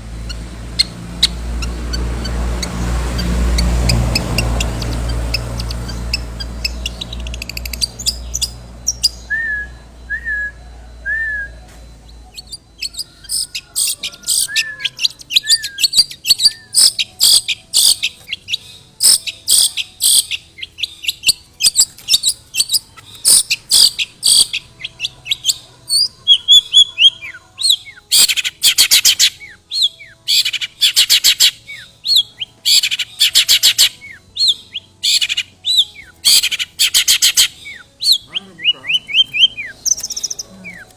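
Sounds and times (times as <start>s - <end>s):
shrike chattering song: 0.0s - 40.9s.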